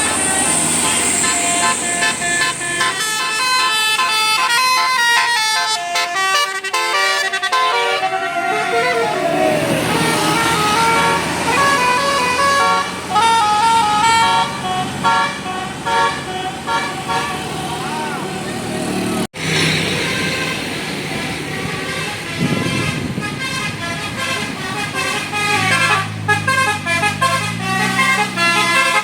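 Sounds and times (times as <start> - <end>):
bus musical horn playing a tune: 0.0 - 18.6, 20.0 - 29.0.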